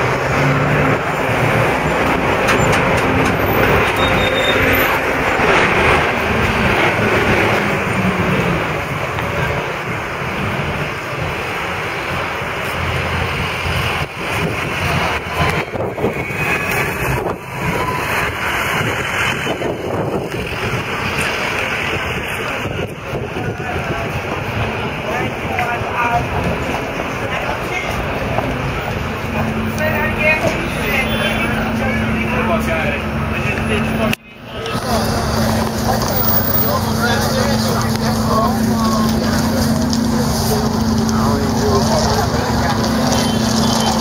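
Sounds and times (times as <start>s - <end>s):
bus engine hum: 0.0s - 44.0s
cars passing: 0.0s - 44.0s.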